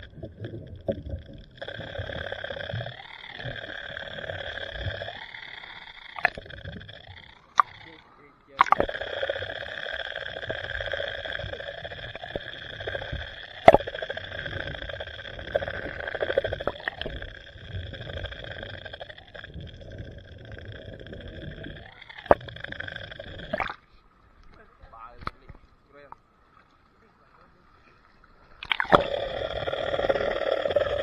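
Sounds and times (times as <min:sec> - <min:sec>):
underwater droning hum: 0:00.0 - 0:31.0.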